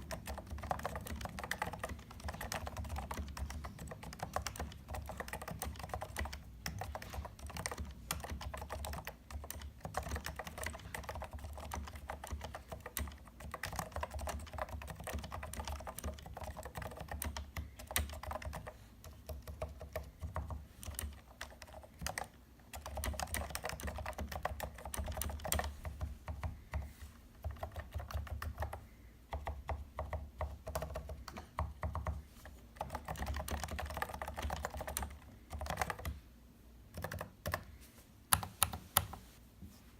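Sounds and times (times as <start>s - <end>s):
keyboard typing: 0.0s - 36.2s, 36.9s - 39.2s.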